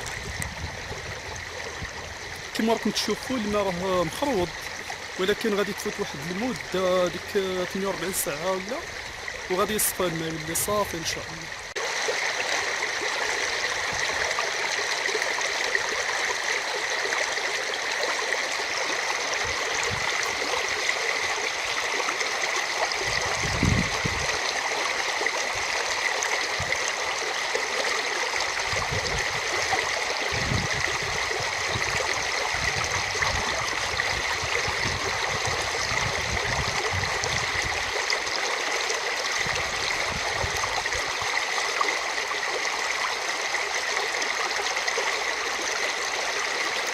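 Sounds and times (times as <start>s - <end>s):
river rushing: 0.0s - 46.9s.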